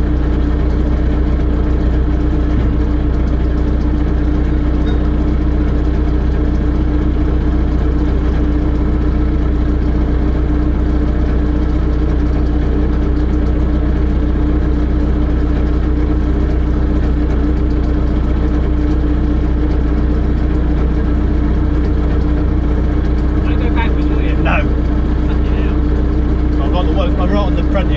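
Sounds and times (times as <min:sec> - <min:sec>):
heavy engine idling: 0:00.0 - 0:27.9.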